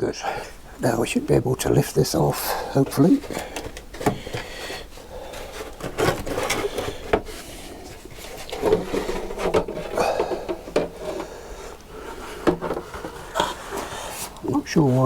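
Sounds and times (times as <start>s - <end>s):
metal scraping and rubbing: 2.3s - 15.0s.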